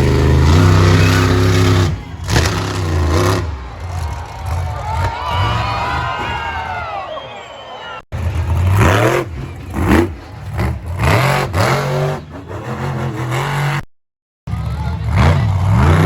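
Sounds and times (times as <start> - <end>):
race engines revving: 0.0 - 13.9, 14.5 - 16.0.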